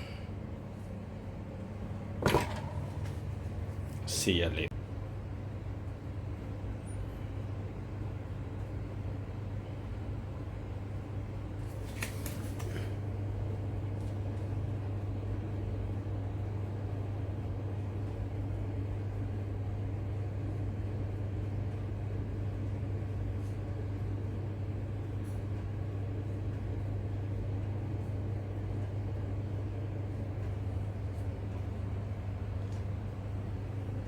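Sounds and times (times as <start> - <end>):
fan oven humming: 0.0 - 34.0.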